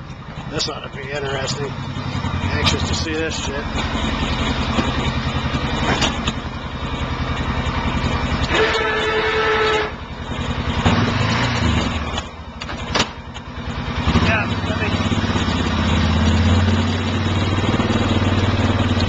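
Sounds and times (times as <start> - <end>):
atv engine idling and revving: 0.0 - 19.0.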